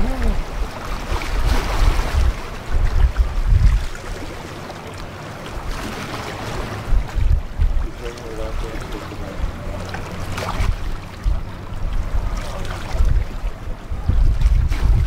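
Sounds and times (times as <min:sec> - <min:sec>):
water washing: 0:00.0 - 0:15.0
wind buffeting microphone: 0:00.0 - 0:15.0.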